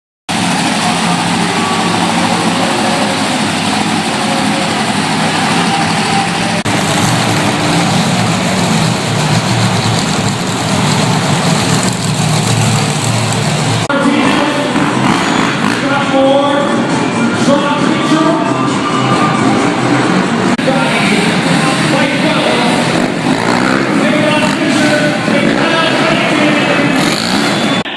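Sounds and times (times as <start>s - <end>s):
monster truck engines running: 0.3s - 27.9s.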